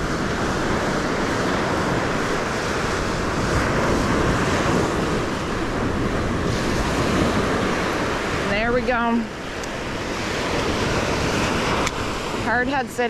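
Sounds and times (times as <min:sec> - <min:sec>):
waves washing onto beach: 0:00.0 - 0:13.0
wind buffeting microphone: 0:00.0 - 0:13.0.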